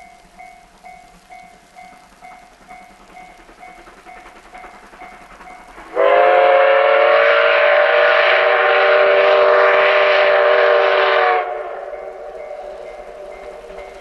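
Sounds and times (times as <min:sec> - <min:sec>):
steam locomotive whistle: 0:00.0 - 0:14.0.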